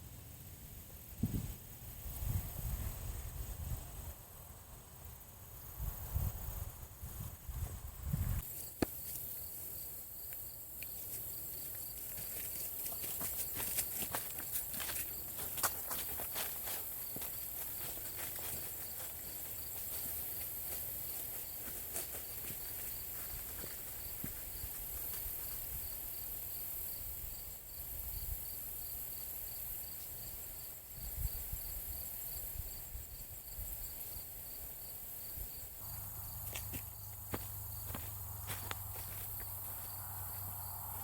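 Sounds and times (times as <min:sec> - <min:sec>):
cricket chirping: 0:00.0 - 0:41.0.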